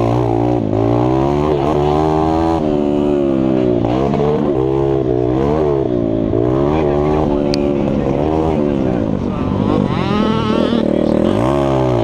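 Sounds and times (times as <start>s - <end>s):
mini bike engine revving: 0.0s - 12.0s.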